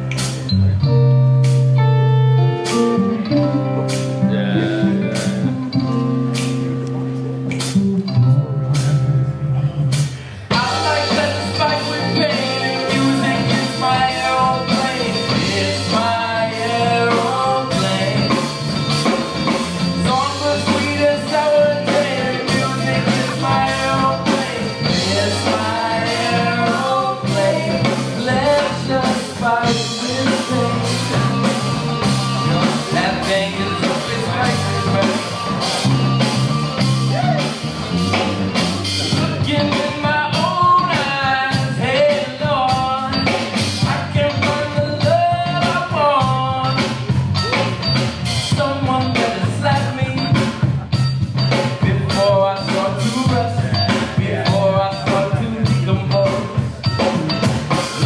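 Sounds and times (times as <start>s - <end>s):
bass guitar: 0.0s - 58.0s
drum kit: 0.0s - 58.0s
electric guitar: 0.0s - 58.0s
person singing: 3.4s - 7.1s, 8.4s - 18.5s, 20.0s - 36.1s, 38.9s - 50.9s, 51.5s - 57.1s.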